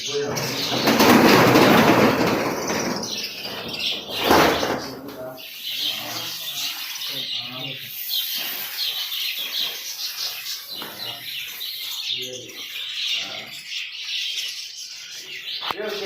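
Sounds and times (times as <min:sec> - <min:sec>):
parrots chirping: 0:00.0 - 0:16.0.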